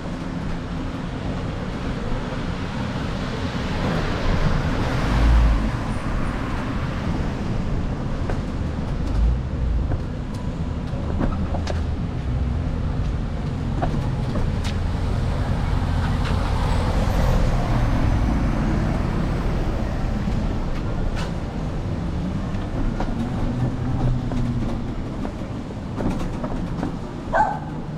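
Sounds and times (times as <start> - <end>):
low rumble of passing vehicles: 0.0 - 27.9.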